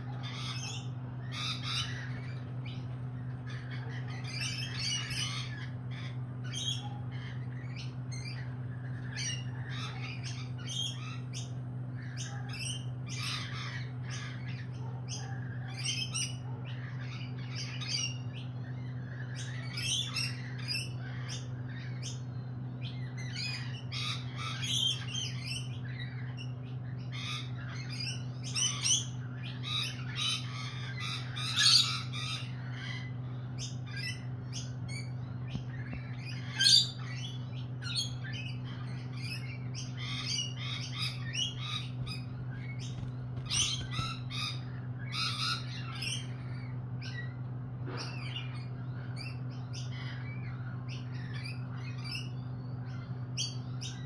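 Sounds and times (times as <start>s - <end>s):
lorikeets screeching and chattering: 0.0s - 54.0s
steady low hum: 0.0s - 54.0s.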